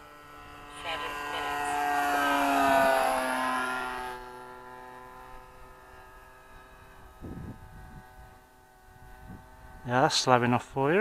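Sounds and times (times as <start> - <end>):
model aeroplane engine flying past: 0.0 - 11.0.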